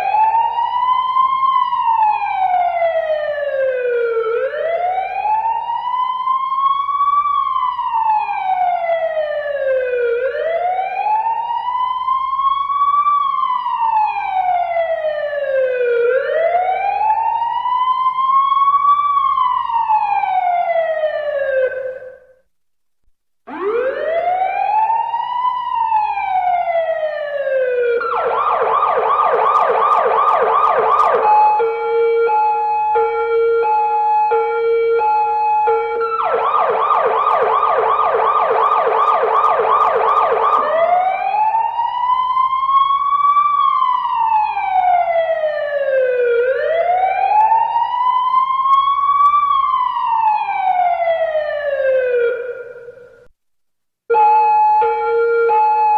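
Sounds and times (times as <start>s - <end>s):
police siren wailing: 0.0s - 22.2s, 23.5s - 53.2s, 54.1s - 55.9s
police siren yelp: 0.0s - 22.2s, 23.5s - 53.2s, 54.1s - 55.9s.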